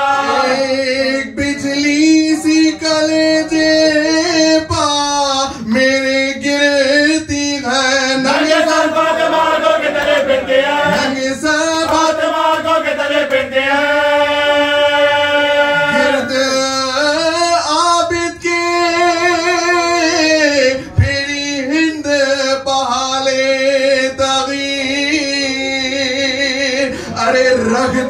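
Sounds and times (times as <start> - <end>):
man chanting a lament: 0.0 - 28.0.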